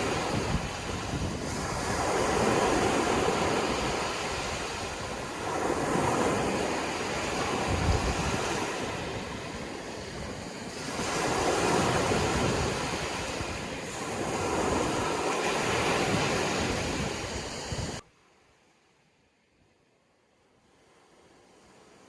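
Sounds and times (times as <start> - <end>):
sea surf washing: 0.0 - 18.0.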